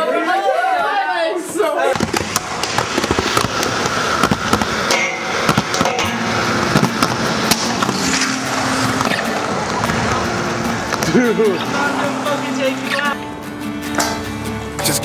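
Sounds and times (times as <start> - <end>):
inline skate wheels rolling on concrete: 1.5 - 14.4.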